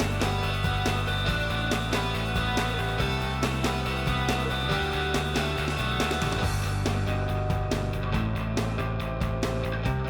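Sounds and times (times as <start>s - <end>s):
rock music with drums and guitar: 0.0s - 10.0s.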